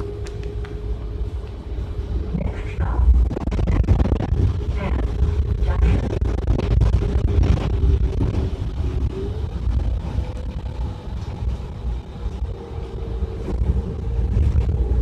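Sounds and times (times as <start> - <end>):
bus engine and road rumble: 0.0 - 15.0
drivetrain hum: 0.0 - 15.0.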